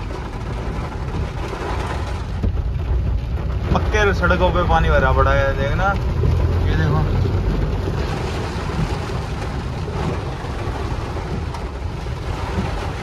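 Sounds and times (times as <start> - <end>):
deep car rumble: 0.0 - 13.0
water and rain hitting car: 0.0 - 13.0.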